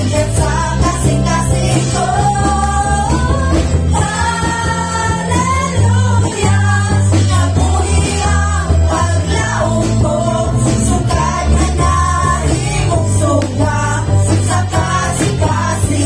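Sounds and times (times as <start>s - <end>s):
women singing: 0.0s - 16.0s
worship band playing: 0.0s - 16.0s.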